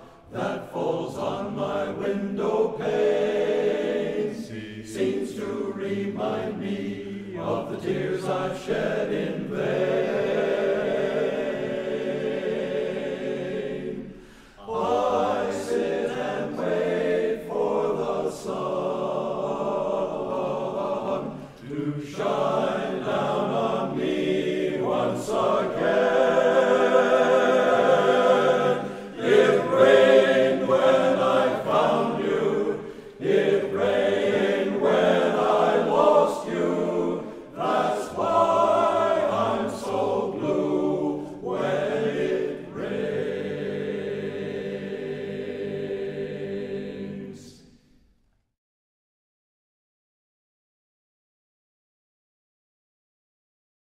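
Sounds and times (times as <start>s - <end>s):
male choir singing: 0.0s - 47.8s.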